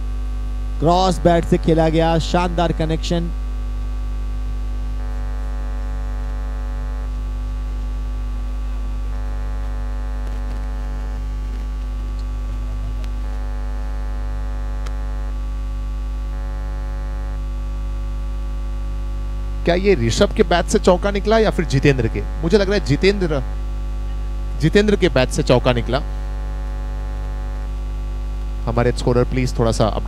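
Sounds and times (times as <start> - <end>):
higher thin buzz: 0.0 - 29.0
electrical mains hum: 0.0 - 30.0.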